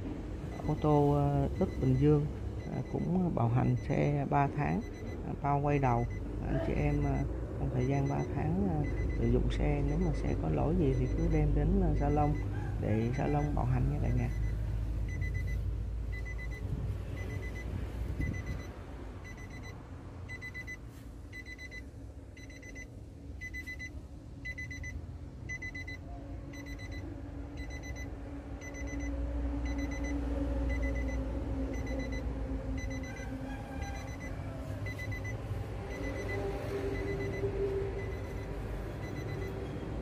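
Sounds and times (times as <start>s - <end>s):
vehicle warning chime beeping: 0.0s - 40.0s.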